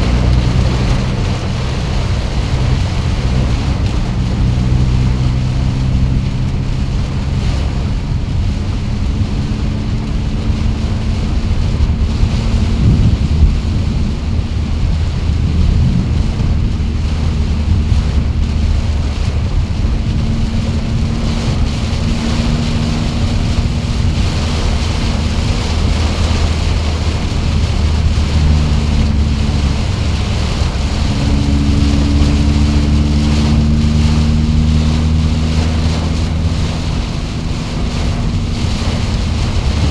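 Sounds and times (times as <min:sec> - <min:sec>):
heavy rain: 0:00.0 - 0:39.9
low motor hum: 0:00.0 - 0:39.9
wind: 0:00.0 - 0:39.9.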